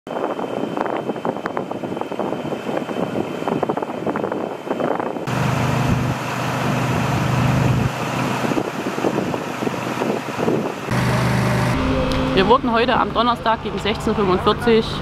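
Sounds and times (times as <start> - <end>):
wind on microphone: 0.1 - 13.3
low engine hum: 0.2 - 15.0.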